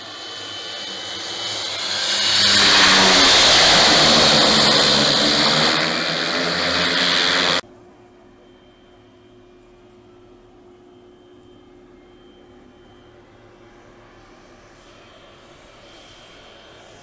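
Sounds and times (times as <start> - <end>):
propeller plane engine: 0.0 - 7.6, 9.5 - 17.0.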